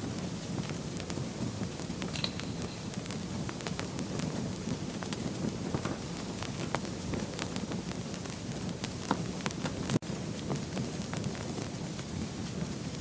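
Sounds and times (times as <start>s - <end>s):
fire crackling and popping: 0.0s - 13.0s
wood fire burning: 0.0s - 13.0s.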